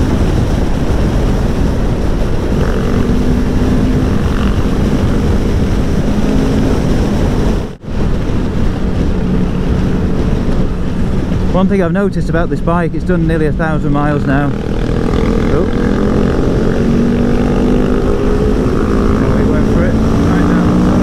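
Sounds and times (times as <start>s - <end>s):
motorcycle engine running: 0.0s - 11.6s, 13.4s - 21.0s
wind rush: 0.0s - 21.0s.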